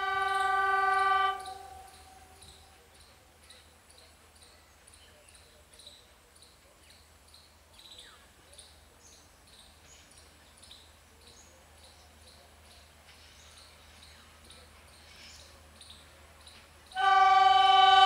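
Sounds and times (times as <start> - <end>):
birds chirping: 0.0 - 17.3.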